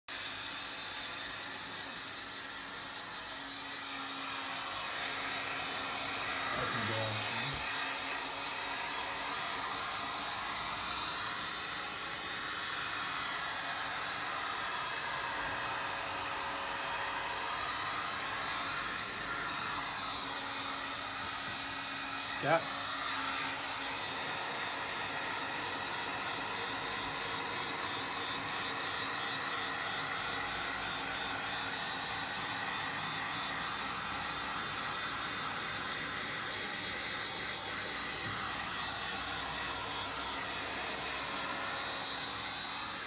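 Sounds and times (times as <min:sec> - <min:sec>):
heat gun blowing air: 0:00.2 - 0:43.0.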